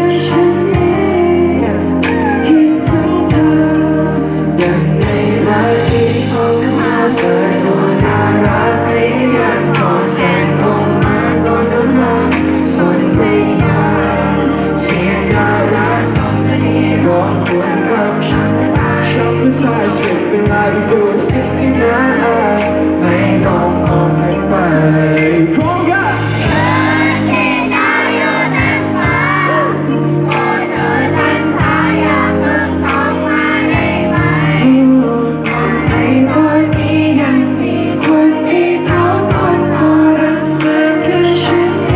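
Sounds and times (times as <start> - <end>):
live band playing: 0.0 - 41.9
man singing: 0.0 - 41.9.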